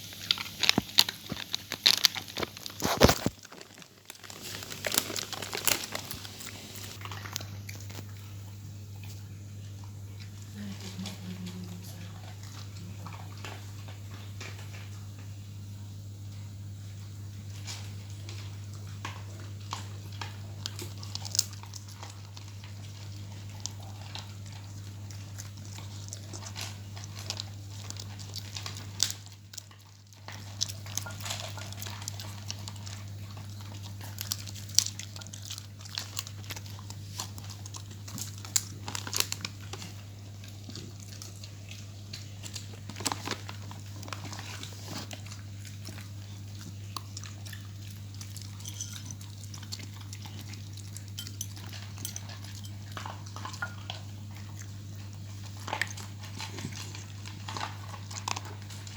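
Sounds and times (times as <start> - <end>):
dog chewing and crunching food: 0.0 - 58.9
steady low hum: 0.0 - 58.9.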